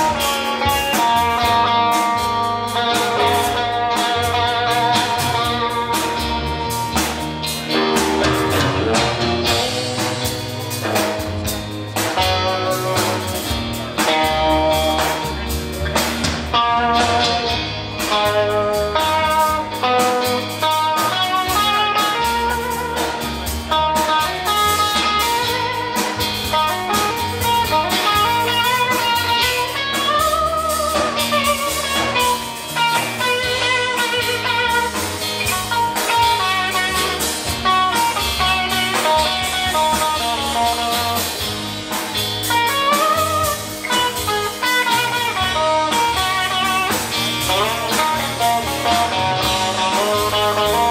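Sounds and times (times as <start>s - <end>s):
bass and drums: 0.0s - 50.9s
electric guitars: 0.0s - 50.9s.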